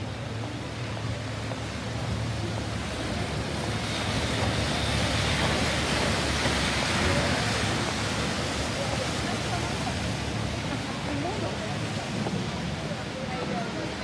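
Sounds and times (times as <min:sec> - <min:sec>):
bus driving on wet road: 0:00.0 - 0:14.0
traffic on wet street: 0:00.0 - 0:14.0.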